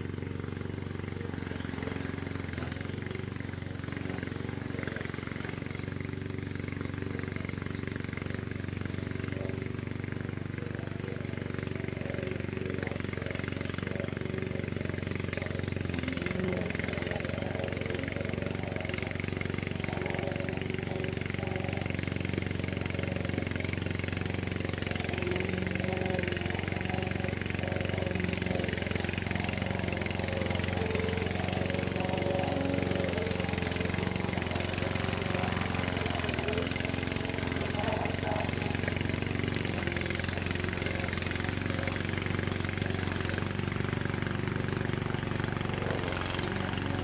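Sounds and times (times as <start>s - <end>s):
mower engine cutting grass: 0.0s - 47.0s.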